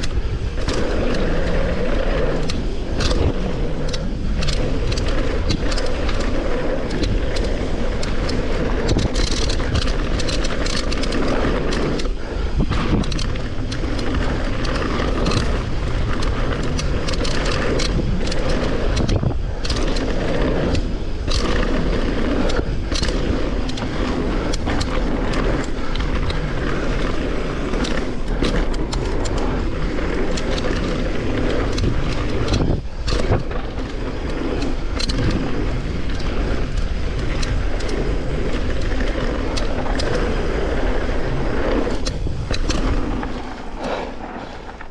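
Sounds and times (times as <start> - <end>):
bike clattering over bumps: 0.0 - 44.9
tyres rolling over dirt: 0.0 - 44.9
wind on microphone: 0.0 - 44.9.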